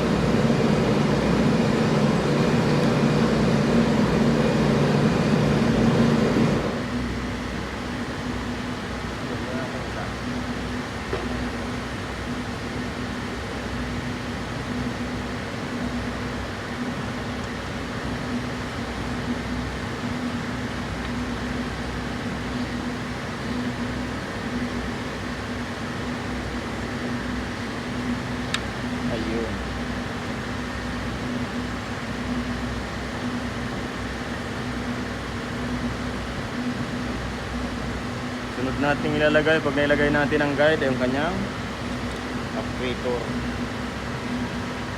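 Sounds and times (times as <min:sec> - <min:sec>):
mechanical hum and hiss: 0:00.0 - 0:44.9.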